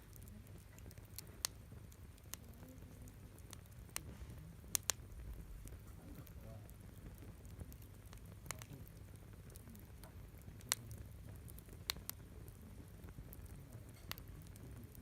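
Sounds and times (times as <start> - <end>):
campfire wood crackling: 0.0 - 15.0
faint low rumble: 0.0 - 15.0.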